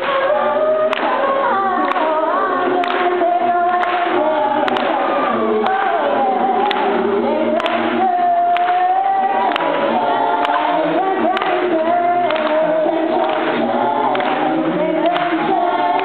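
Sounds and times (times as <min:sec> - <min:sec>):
a cappella group singing: 0:00.0 - 0:16.0.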